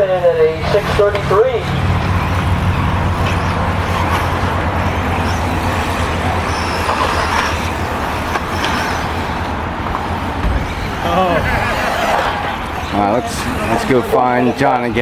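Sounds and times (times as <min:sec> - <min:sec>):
constant low hum: 0:00.0 - 0:14.1
faint motor whines: 0:00.0 - 0:15.0
rc car motors and tyres: 0:00.0 - 0:15.0.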